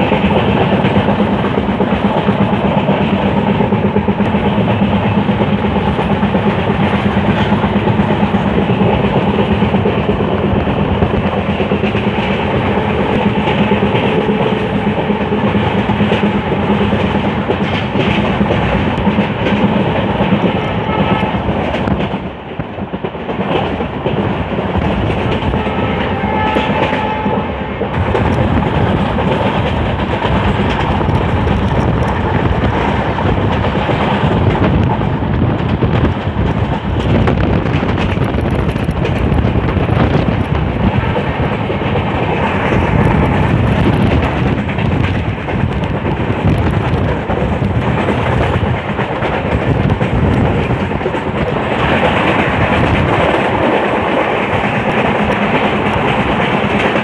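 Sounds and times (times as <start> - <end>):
wheels clicking over rail joints: 0.0 - 27.2, 27.8 - 57.0
train wheels rumbling on rail: 0.0 - 57.0.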